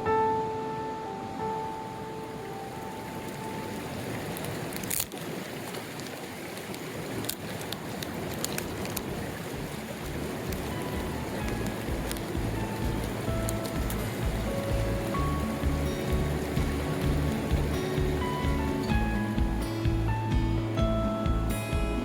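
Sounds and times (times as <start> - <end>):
stream rushing over rocks: 1.0 - 22.0.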